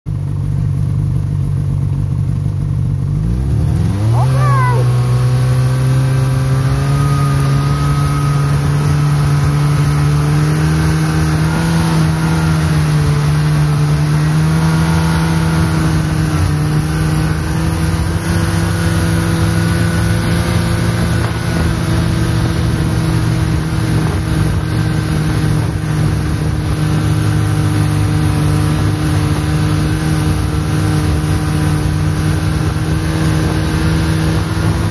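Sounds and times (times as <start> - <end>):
snowmobile engine revving: 3.2 - 34.9.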